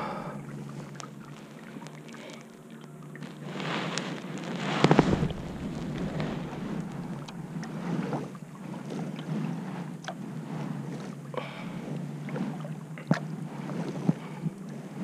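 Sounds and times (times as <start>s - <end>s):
paddle strokes splashing: 0.0s - 15.0s
wind rumbling on microphone: 0.0s - 15.0s.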